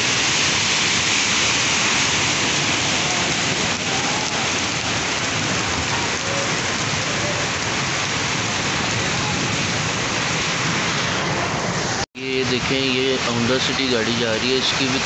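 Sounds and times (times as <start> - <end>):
torrential rain on street: 0.0 - 15.0.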